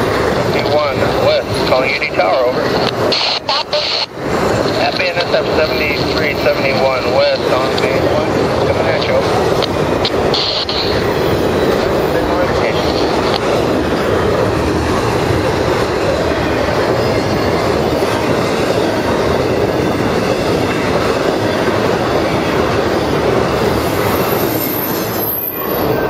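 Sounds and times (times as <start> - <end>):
train wheels running on rail: 0.0 - 26.0.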